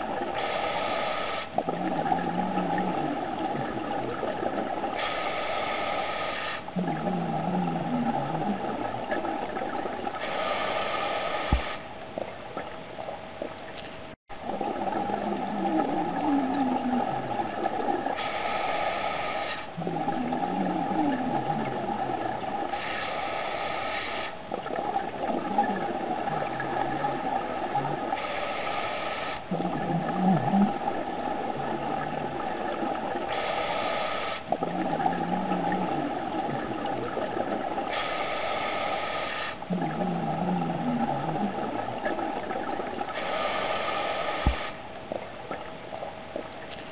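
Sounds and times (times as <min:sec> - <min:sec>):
underwater hum and hiss: 0:00.0 - 0:46.9.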